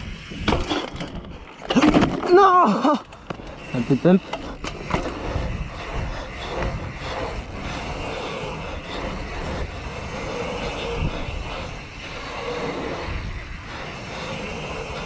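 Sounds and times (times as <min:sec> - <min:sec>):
wind rumbling on microphone: 0:00.0 - 0:02.4, 0:03.1 - 0:15.0
bike tyre noise on asphalt: 0:00.0 - 0:15.0.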